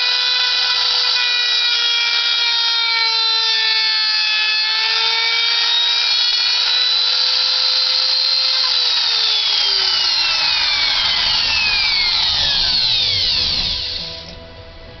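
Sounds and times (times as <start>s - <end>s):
router motor winding down: 0.0s - 14.6s.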